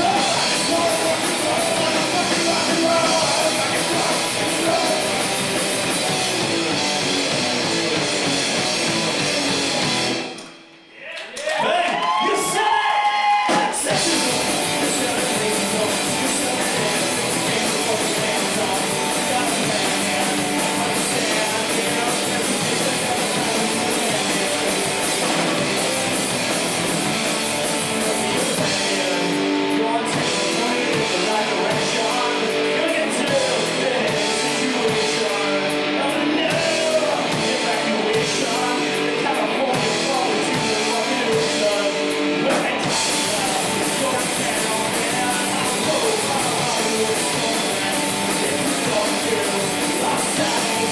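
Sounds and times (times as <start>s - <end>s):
rock band playing live: 0.0s - 10.9s, 12.0s - 50.9s.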